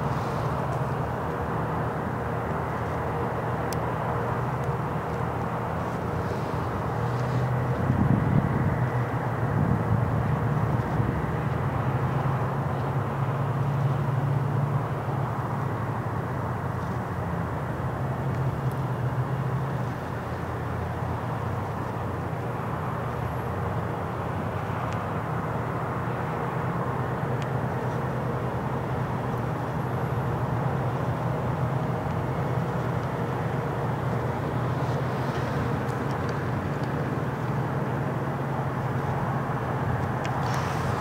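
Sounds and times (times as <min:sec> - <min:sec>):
aircraft engines rumbling: 0:00.0 - 0:41.0.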